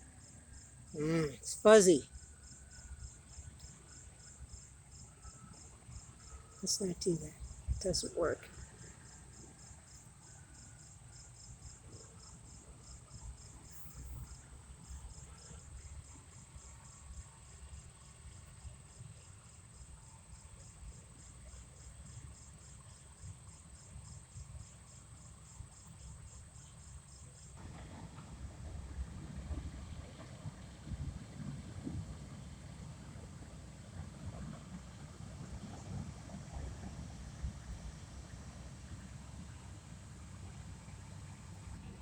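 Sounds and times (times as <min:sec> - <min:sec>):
crickets chirping: 0:00.0 - 0:42.0.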